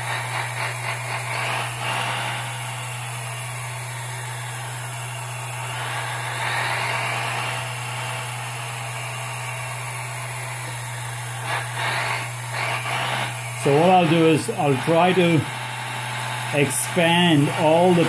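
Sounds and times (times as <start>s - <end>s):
toy excavator hydraulic pump hum: 0.0s - 18.0s.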